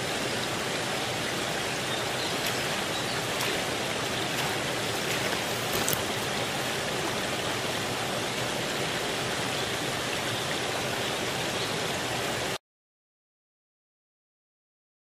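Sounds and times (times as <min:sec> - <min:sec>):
water rushing over dam: 0:00.0 - 0:12.6.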